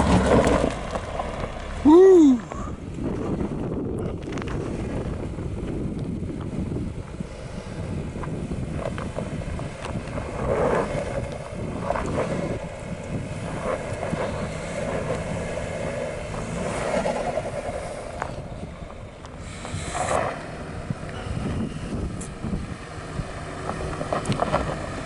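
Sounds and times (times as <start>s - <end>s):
vehicle rumbling over rough trail: 0.0s - 25.0s.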